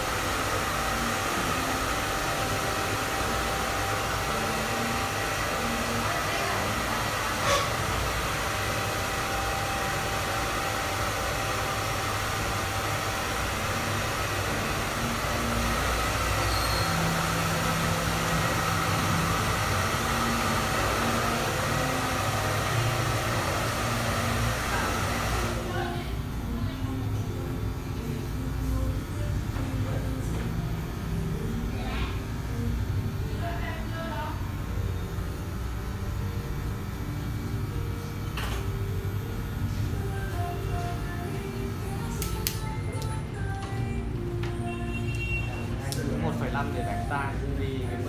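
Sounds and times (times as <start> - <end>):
electric hair clipper running: 0.0 - 28.7, 29.4 - 43.8.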